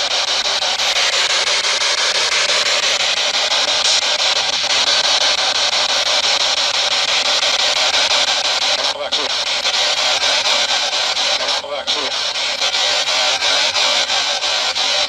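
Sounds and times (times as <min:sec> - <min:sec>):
fast even ticking: 0:00.0 - 0:15.0
radio static hissing: 0:00.0 - 0:15.0.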